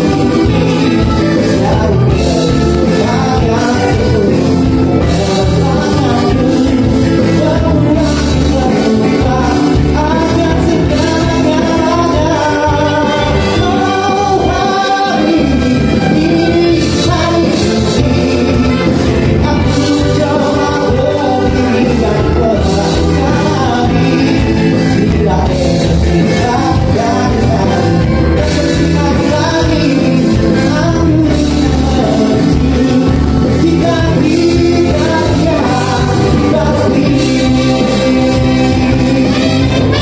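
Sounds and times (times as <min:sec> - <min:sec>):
lead vocalist singing: 0:00.0 - 0:40.0
live band playing: 0:00.0 - 0:40.0.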